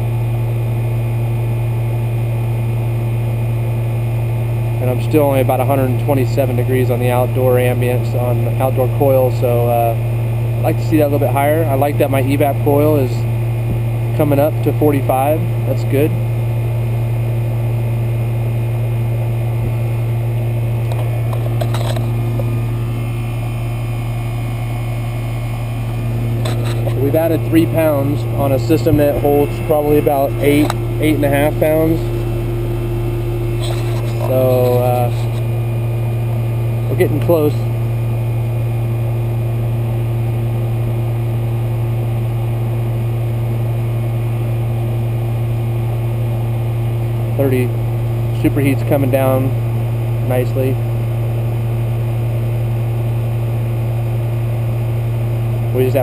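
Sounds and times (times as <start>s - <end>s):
air conditioner unit humming: 0.0s - 56.0s.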